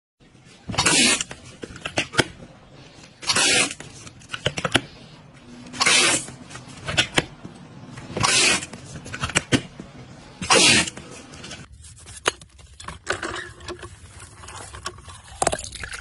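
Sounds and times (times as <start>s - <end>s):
latex rubbing: 0.3s - 15.2s.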